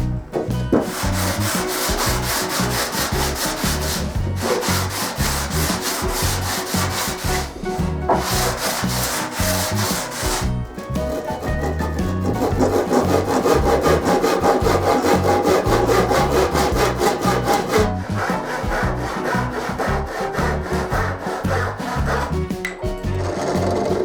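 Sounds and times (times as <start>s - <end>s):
wood being sawn by hand: 0.0s - 24.0s.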